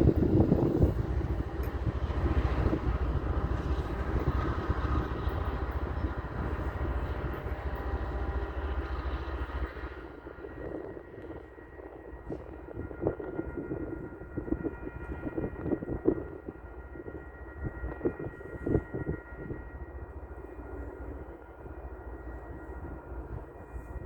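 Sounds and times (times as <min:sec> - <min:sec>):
diesel train rumbling past: 0:00.0 - 0:24.0.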